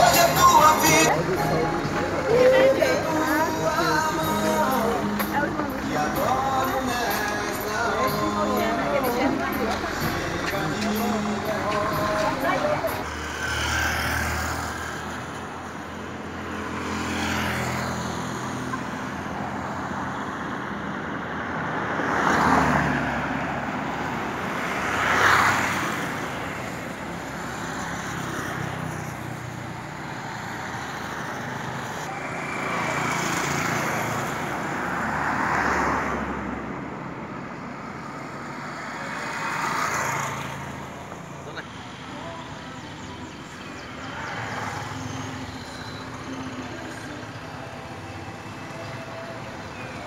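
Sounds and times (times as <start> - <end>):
vehicles passing: 0.0 - 50.0.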